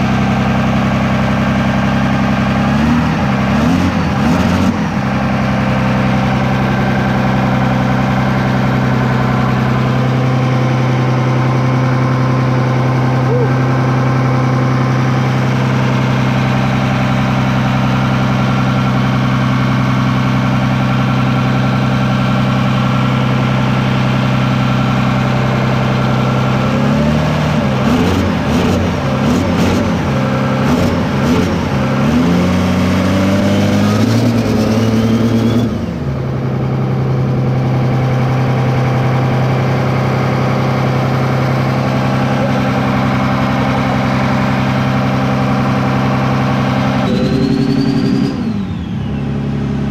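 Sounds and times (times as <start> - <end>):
diesel engine idling: 0.0 - 49.9
diesel engine revving: 0.0 - 49.9.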